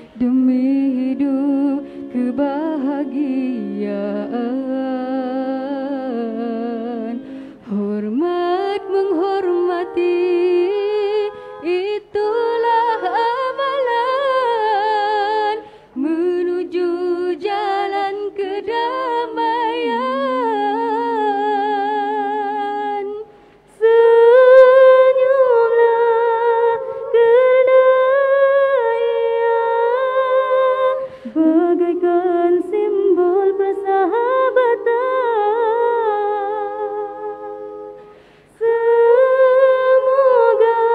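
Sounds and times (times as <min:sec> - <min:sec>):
women singing a cappella: 0:00.0 - 0:40.9.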